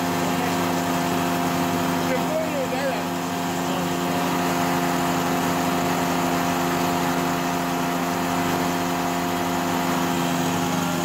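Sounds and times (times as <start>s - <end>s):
airboat engine running: 0.0s - 11.0s.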